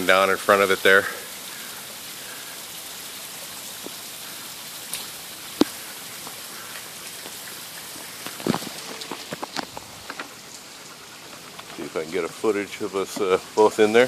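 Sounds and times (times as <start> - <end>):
spattering water hiss: 0.0 - 14.0.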